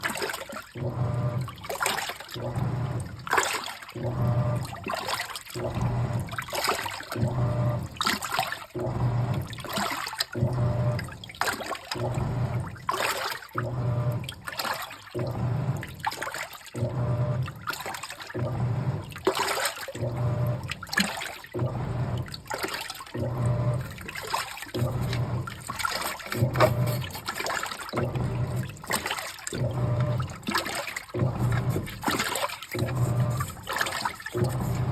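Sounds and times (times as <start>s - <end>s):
washing machine motor humming: 0.0s - 34.9s
washing machine water sloshing: 0.0s - 34.9s.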